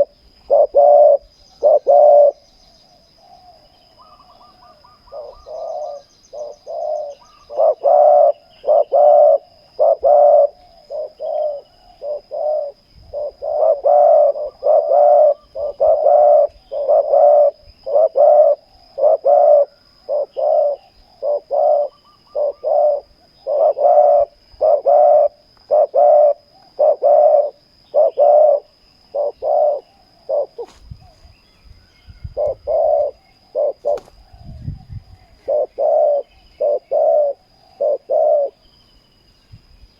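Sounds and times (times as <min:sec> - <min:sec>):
doves cooing: 0:00.0 - 0:38.7.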